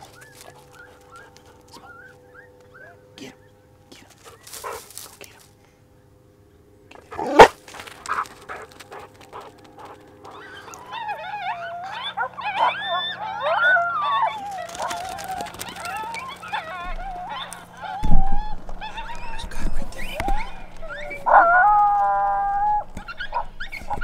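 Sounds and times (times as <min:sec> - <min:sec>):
coyotes howling and yipping: 0:00.0 - 0:05.0, 0:05.9 - 0:24.0.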